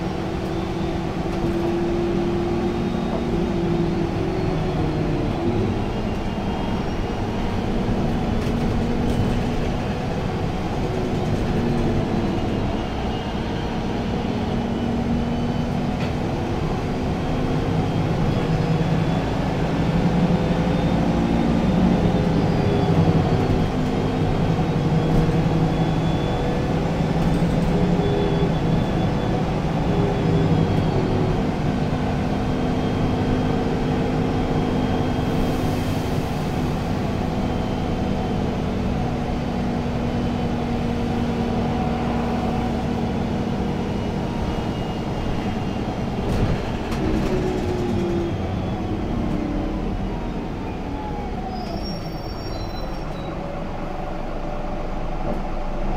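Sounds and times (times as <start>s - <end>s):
bus engine and road drone: 0.0s - 55.9s.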